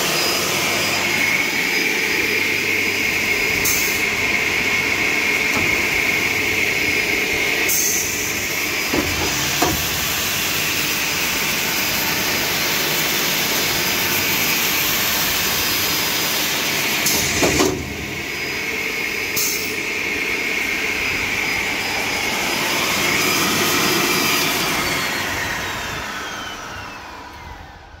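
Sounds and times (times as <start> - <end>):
circular saw motor and blade whine: 0.0 - 28.0.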